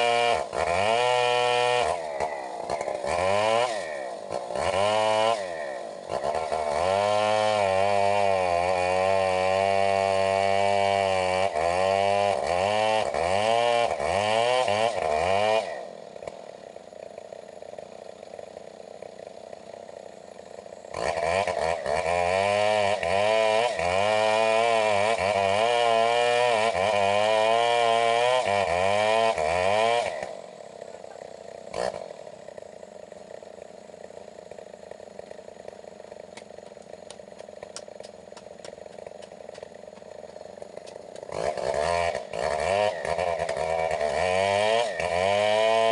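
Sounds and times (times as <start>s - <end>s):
chainsaw idling: 0.0s - 45.9s
chainsaw revving and cutting wood: 0.0s - 45.9s.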